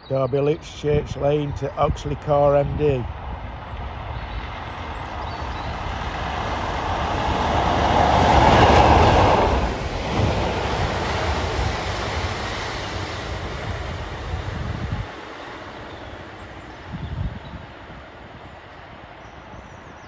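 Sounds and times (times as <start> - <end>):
train passing: 0.3 - 20.0.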